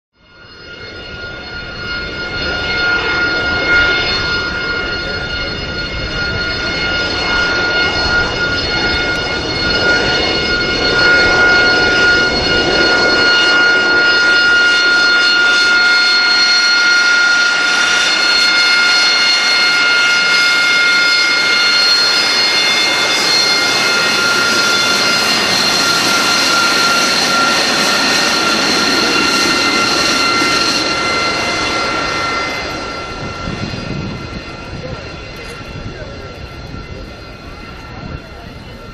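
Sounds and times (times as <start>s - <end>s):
jet engine whine and roar: 0.2s - 38.9s.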